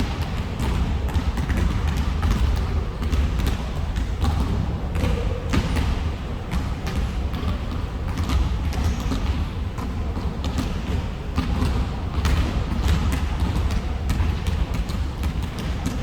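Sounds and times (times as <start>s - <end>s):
basketballs bouncing on gym floor: 0.0s - 16.0s
low hall hum: 0.0s - 16.0s.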